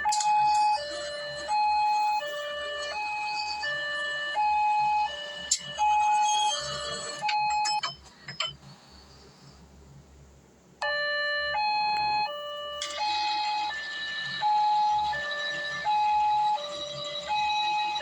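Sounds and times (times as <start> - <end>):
two-tone siren wail: 0.0 - 7.9, 10.8 - 18.0.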